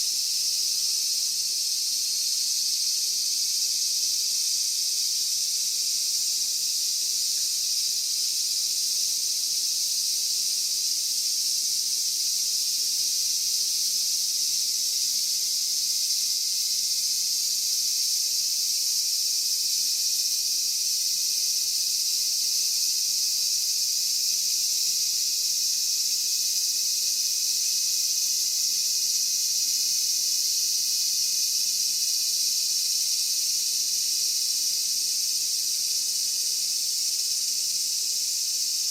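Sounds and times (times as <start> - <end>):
insects shrilling: 0.0 - 38.9.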